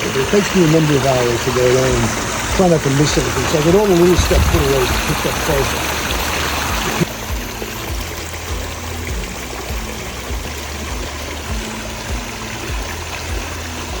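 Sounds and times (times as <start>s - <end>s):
water rushing over waterfall: 0.0s - 14.0s.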